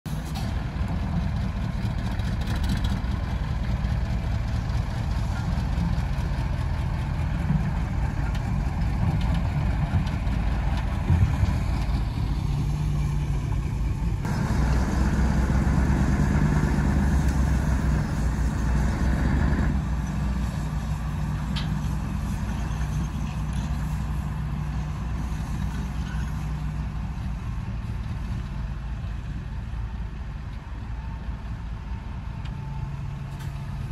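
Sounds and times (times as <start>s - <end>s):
heavy diesel engines running: 0.1s - 33.9s.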